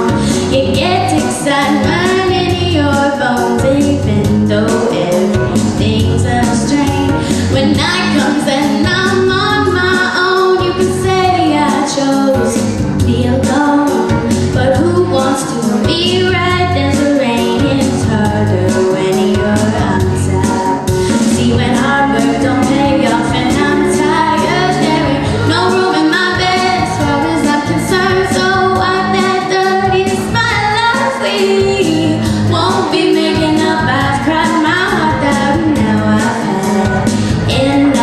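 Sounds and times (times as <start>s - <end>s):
backing music with steady beat: 0.0s - 38.0s
woman singing pop song: 0.0s - 38.0s.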